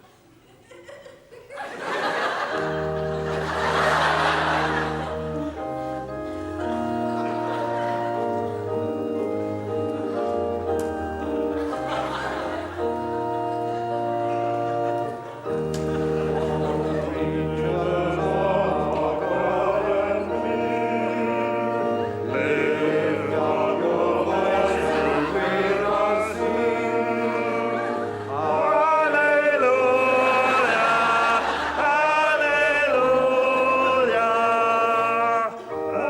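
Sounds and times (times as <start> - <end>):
choir singing a hymn: 1.6 - 36.0
organ accompaniment: 1.6 - 36.0.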